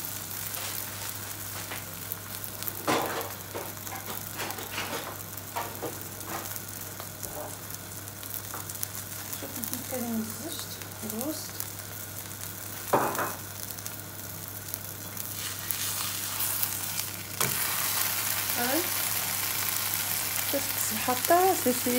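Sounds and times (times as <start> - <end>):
flatbread sizzling in a pan: 0.0 - 21.9.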